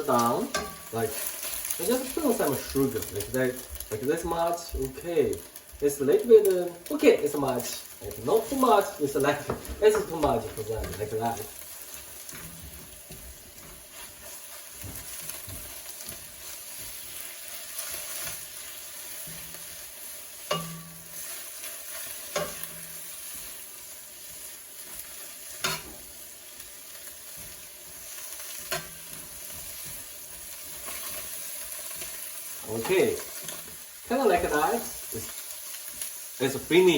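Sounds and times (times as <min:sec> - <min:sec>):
food sizzling in a frying pan: 0:00.0 - 0:36.9.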